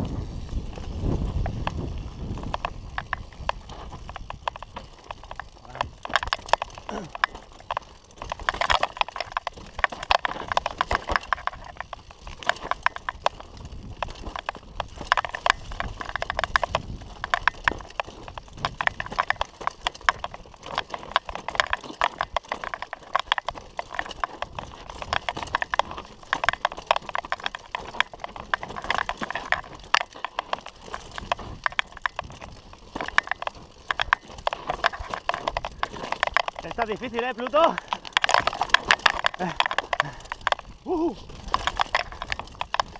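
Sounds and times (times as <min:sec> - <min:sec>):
bike rattling: 0:00.0 - 0:42.9
tyres crunching over stones: 0:00.0 - 0:42.9.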